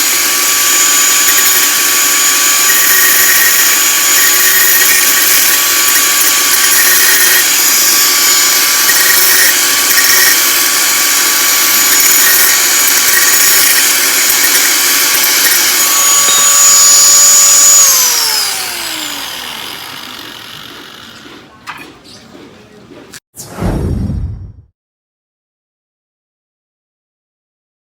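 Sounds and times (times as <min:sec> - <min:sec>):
angle grinder whining: 0:00.0 - 0:23.1.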